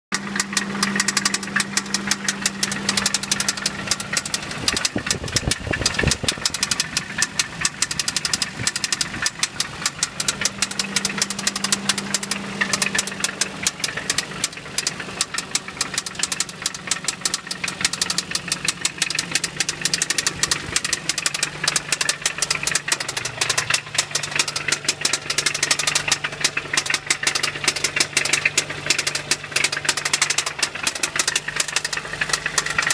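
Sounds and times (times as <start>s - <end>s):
car engine idling with knock: 0.1s - 32.9s.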